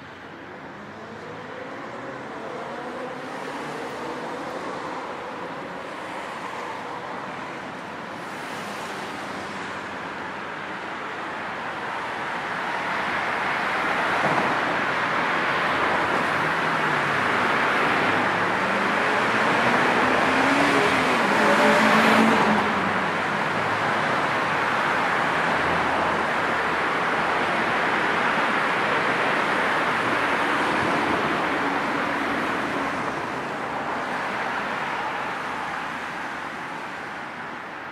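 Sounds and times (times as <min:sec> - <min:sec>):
road traffic noise: 0:00.0 - 0:37.9.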